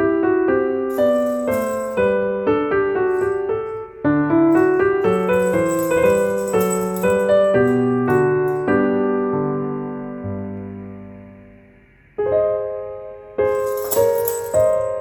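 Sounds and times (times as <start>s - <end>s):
lively piano music: 0.6s - 11.1s, 12.4s - 15.0s.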